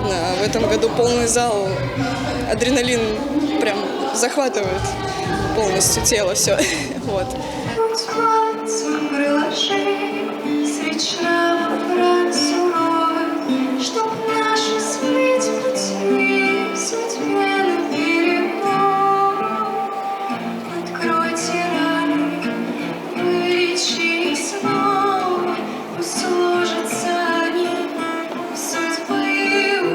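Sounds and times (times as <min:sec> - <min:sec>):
guitar: 0:00.0 - 0:29.9
woman singing: 0:00.0 - 0:29.9.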